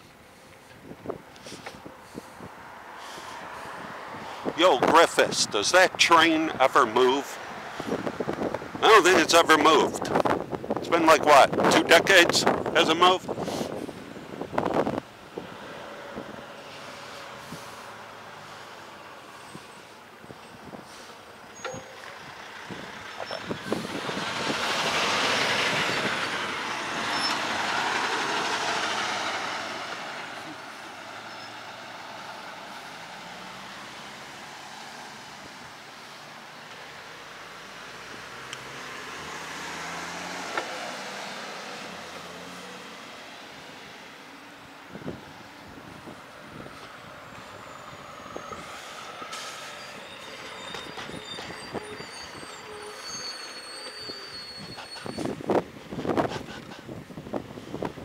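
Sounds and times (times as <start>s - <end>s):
road and wind noise: 0.0s - 58.0s
semi truck passing: 0.0s - 58.0s.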